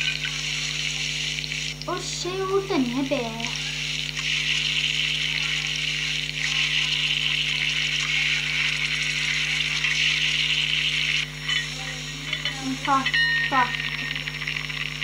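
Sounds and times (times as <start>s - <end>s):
frying pan sizzling: 0.0s - 15.0s.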